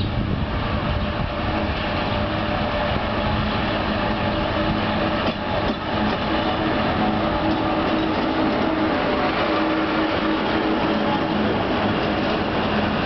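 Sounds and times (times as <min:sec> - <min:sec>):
diesel locomotive engine humming: 0:00.0 - 0:13.0.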